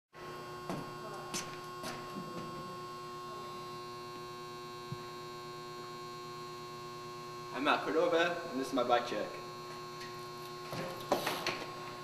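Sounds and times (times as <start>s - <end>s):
electrical hum: 0.2s - 12.0s.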